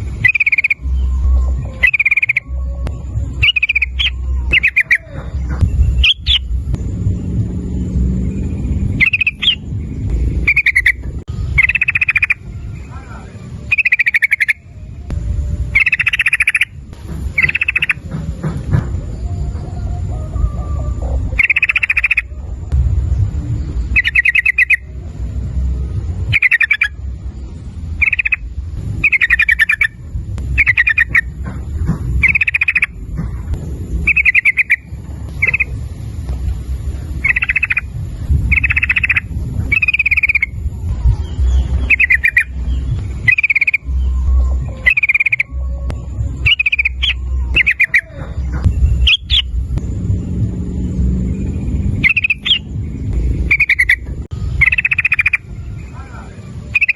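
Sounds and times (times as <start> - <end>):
bird singing bubbling phrases: 0.0 - 6.8, 7.6 - 18.1, 19.0 - 31.4, 32.1 - 33.0, 33.7 - 35.9, 36.8 - 49.7, 50.5 - 56.9
low steady rumble: 0.0 - 56.9.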